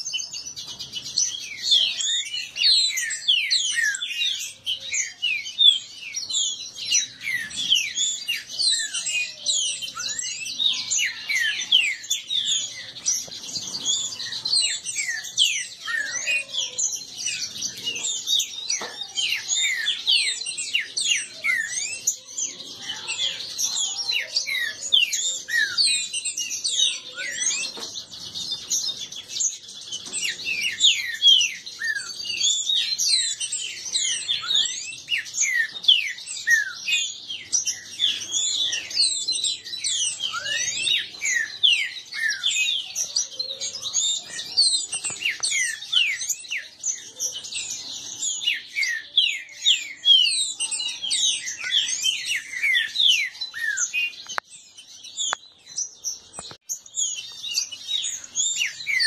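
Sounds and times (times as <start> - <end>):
birds whistling song phrases: 0.0 - 59.0.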